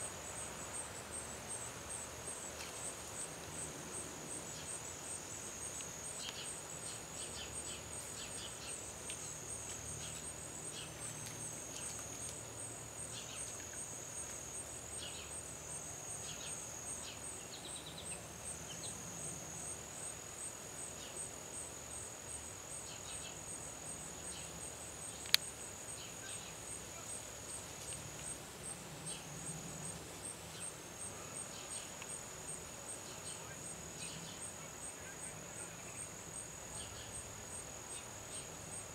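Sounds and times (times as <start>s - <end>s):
high insect drone: 0.0s - 38.9s
insects trilling: 0.0s - 38.9s.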